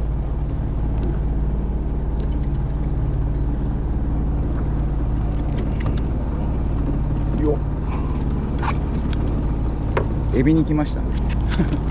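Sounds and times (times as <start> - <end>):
boat engine idling: 0.0 - 11.9.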